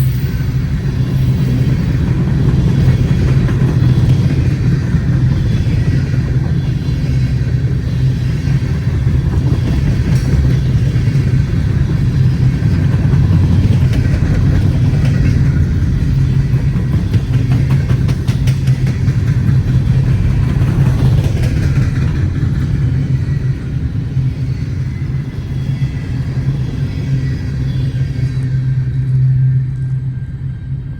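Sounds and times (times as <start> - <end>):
freight train rumbling past: 0.0 - 30.9.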